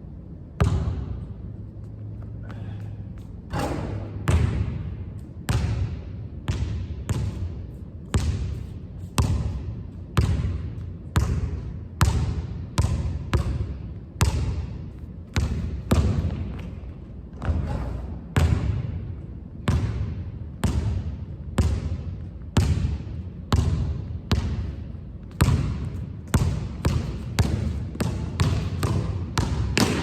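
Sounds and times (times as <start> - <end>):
basketball bouncing on hard court: 0.6 - 1.2, 3.5 - 19.0, 19.6 - 30.0.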